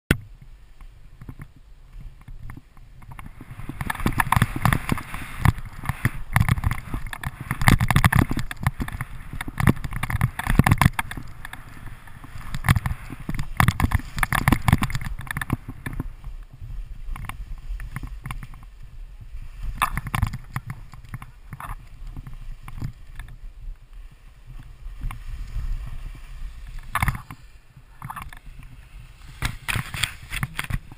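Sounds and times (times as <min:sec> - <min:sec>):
wind rumble on microphone: 0:00.1 - 0:30.9
ski edges scraping: 0:00.8 - 0:30.9
skis swishing through snow: 0:01.8 - 0:30.9.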